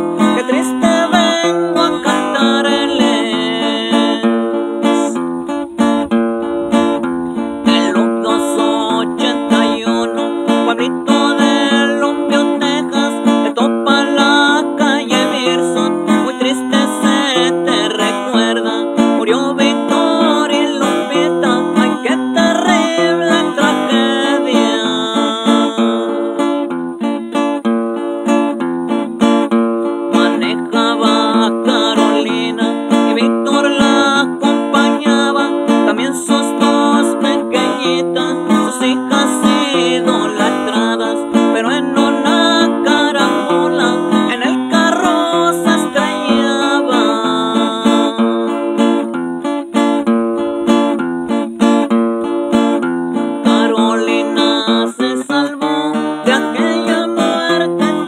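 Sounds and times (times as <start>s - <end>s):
man singing: 0.0s - 27.5s, 30.1s - 49.2s, 53.2s - 58.0s
acoustic guitar strumming: 0.0s - 58.0s.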